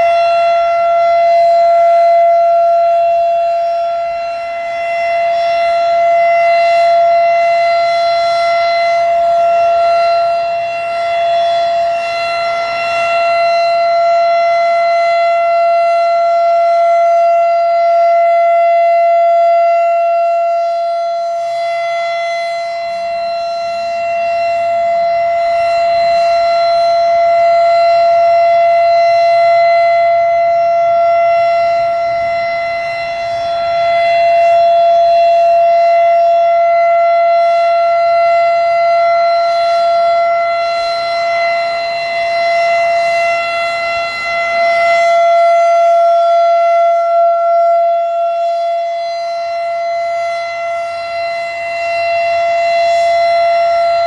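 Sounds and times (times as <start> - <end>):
electronic rotating siren: 0.0 - 54.0.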